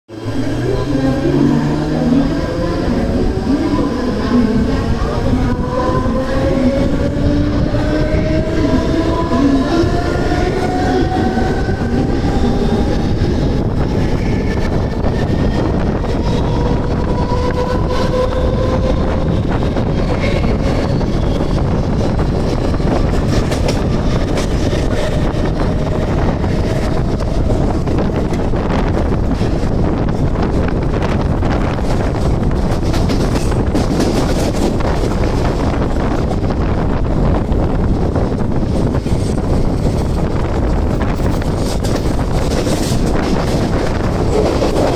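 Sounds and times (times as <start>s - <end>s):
train wheels rumbling on rails: 0.1s - 44.9s
rail joint clicks: 0.3s - 44.9s.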